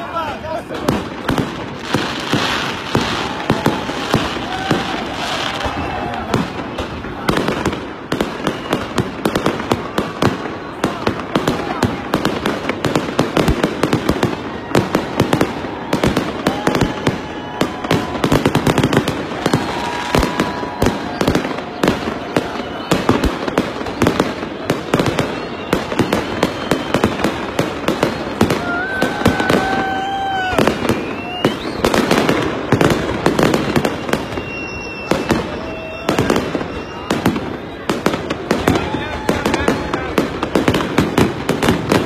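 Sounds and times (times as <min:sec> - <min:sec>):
fireworks crackling and banging: 0:00.0 - 0:42.0.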